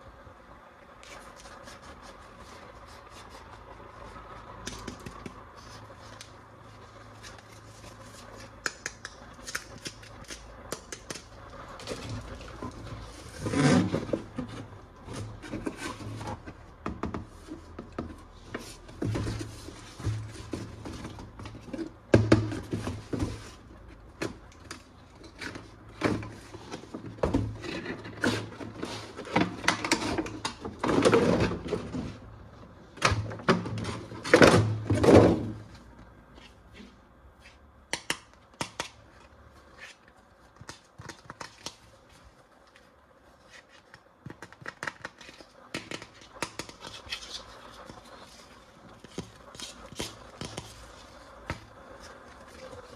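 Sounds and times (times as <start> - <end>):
plastic toys and packaging handled: 1.0 - 52.9.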